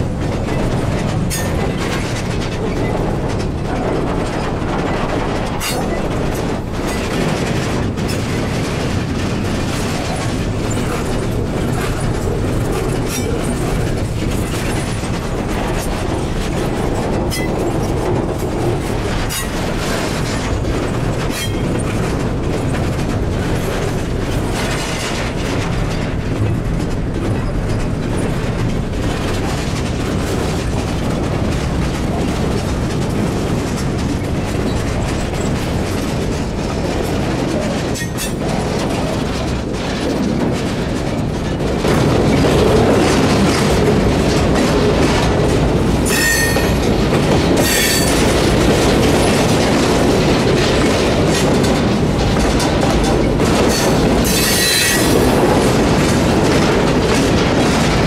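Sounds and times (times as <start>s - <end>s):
freight train wheels on rails: 0.0s - 58.0s
sharp wheel clacks: 0.0s - 58.0s.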